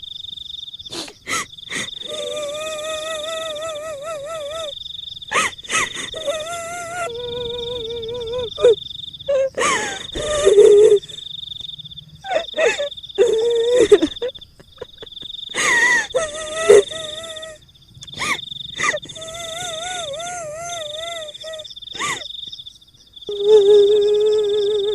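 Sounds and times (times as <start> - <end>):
woman wailing: 1.0 - 4.7, 5.3 - 11.2, 12.3 - 22.2, 23.3 - 24.9.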